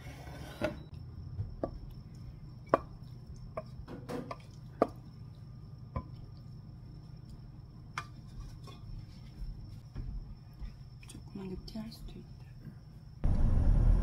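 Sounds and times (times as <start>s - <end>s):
low steady hum: 0.8s - 14.0s.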